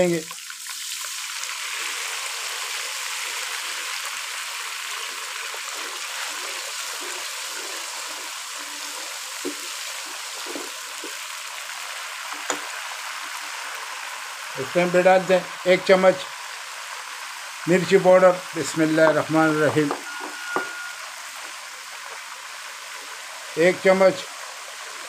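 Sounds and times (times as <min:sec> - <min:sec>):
food sizzling and bubbling in fat: 0:00.0 - 0:25.0.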